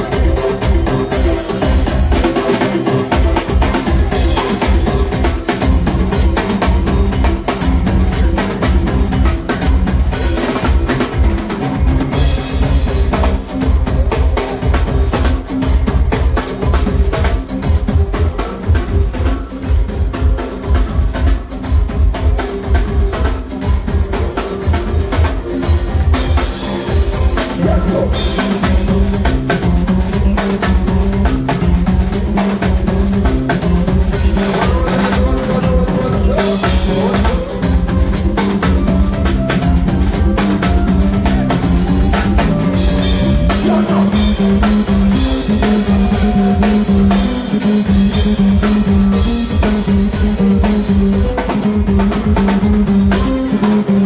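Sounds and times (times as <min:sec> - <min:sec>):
heavy bass drum: 0:00.0 - 0:54.0
live band playing: 0:00.0 - 0:54.0.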